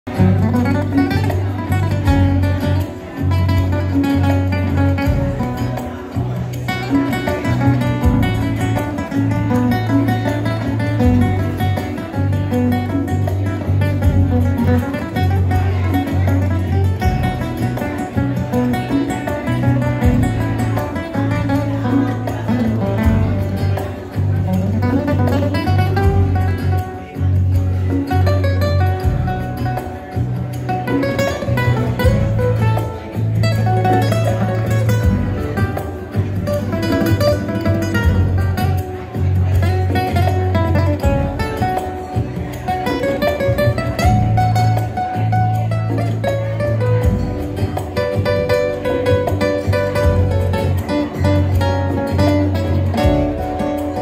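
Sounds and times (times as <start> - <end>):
classical guitar solo: 0.0 - 54.0.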